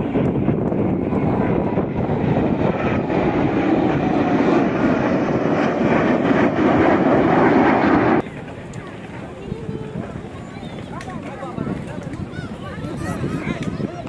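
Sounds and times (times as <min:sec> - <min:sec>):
jet aircraft passing overhead: 0:00.0 - 0:14.0.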